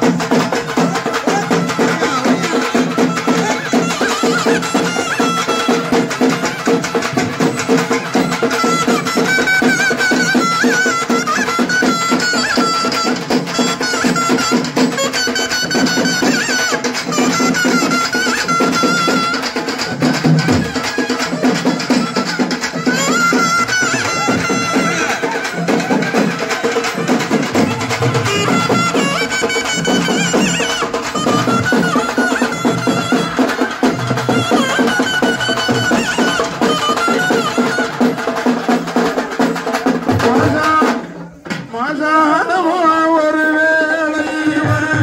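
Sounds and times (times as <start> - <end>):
wind instrument melody: 0.0 - 40.2
continuous drumming: 0.0 - 45.0.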